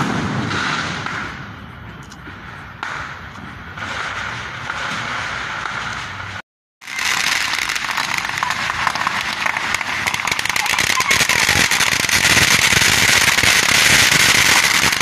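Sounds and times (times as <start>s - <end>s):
fireworks hissing and crackling: 0.0s - 15.0s
fountain fireworks rapid crackle: 0.0s - 15.0s.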